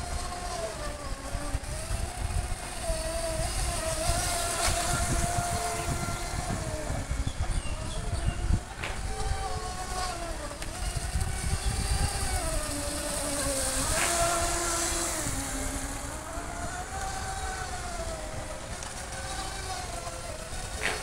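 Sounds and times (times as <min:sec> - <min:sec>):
model speedboat motor whining: 0:00.0 - 0:21.0.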